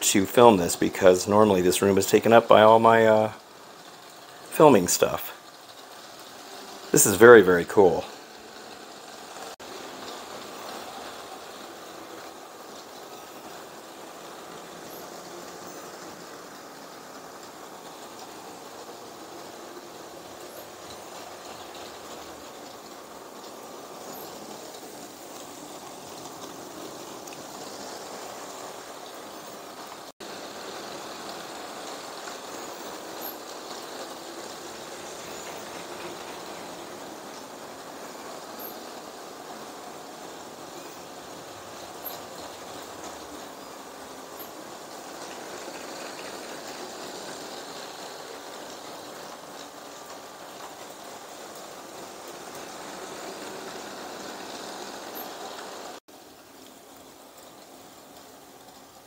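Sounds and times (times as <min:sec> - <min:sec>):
toy train rattling on plastic track: 0:00.0 - 0:06.9, 0:08.0 - 0:59.0
wheels rolling over plastic rails: 0:00.0 - 0:07.0, 0:07.6 - 0:59.0
toy train motor running: 0:05.5 - 0:06.9, 0:08.1 - 0:58.8.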